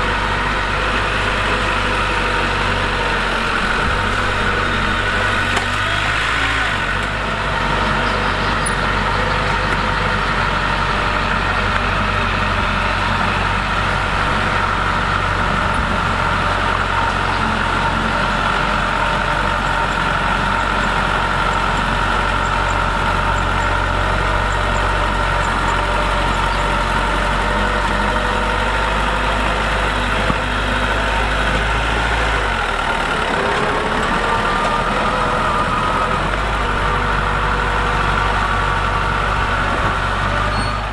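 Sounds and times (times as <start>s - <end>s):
heavy diesel machinery engine: 0.0s - 40.9s
high engine whine: 0.0s - 40.9s.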